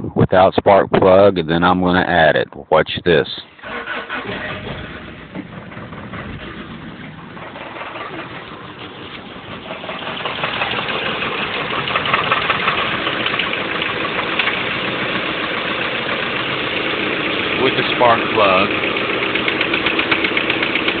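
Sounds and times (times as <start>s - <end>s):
car engine idling: 3.4s - 21.0s
rapid engine knocking: 3.9s - 21.0s.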